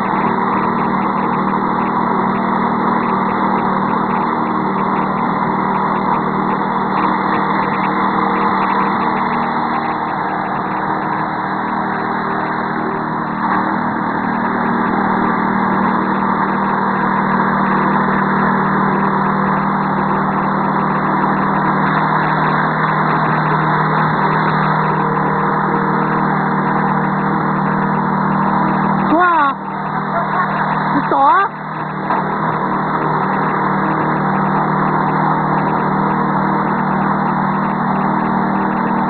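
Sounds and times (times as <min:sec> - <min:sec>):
petrol engine running: 0:00.0 - 0:39.0
rotating brush sweeping concrete: 0:00.0 - 0:39.0.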